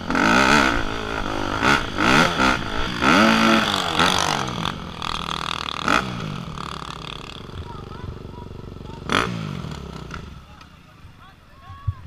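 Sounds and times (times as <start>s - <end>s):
dirt bike engine revving: 0.0s - 10.7s.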